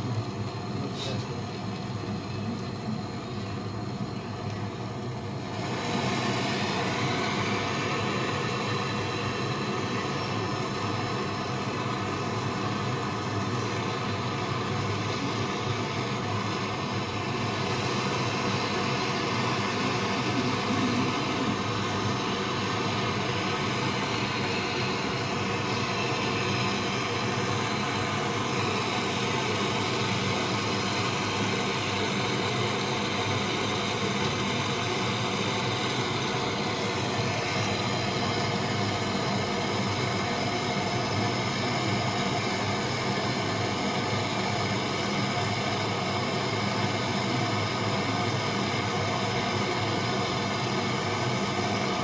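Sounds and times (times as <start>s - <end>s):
mechanical running hum: 0.0s - 52.0s.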